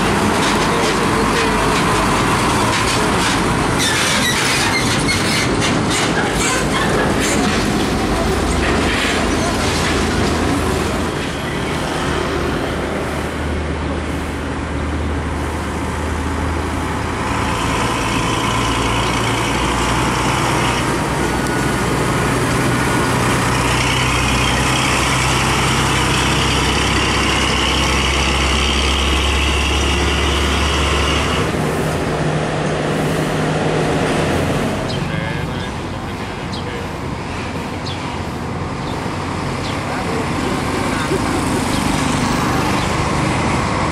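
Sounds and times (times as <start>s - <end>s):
heavy diesel trucks passing: 0.0s - 43.9s.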